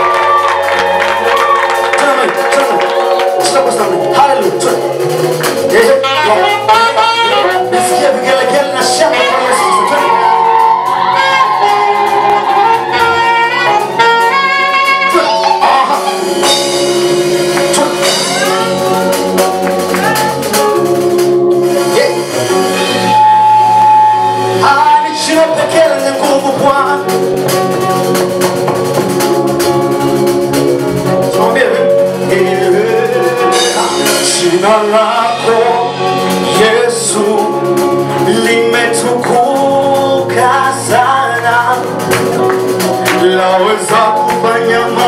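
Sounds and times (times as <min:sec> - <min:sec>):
gospel band playing: 0:00.0 - 0:45.0.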